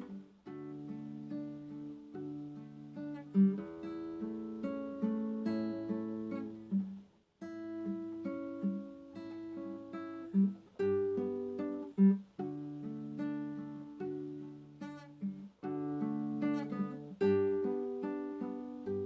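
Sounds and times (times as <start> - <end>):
acoustic guitar plucking: 0.0 - 19.0.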